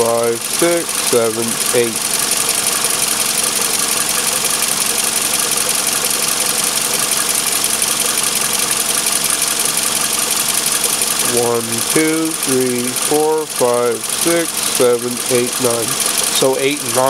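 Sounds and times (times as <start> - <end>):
car engine running steadily: 0.0 - 17.0.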